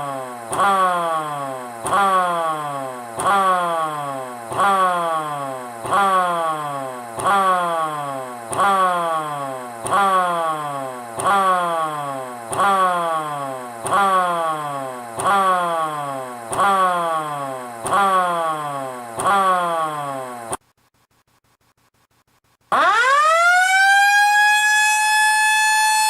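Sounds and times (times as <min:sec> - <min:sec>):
air raid siren cycling: 0:00.0 - 0:20.6, 0:22.7 - 0:26.0.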